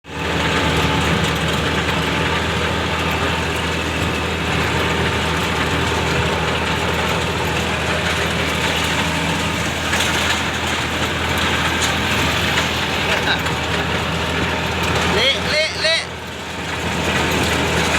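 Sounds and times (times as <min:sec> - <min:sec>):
vehicle engine running steadily: 0:00.0 - 0:17.9.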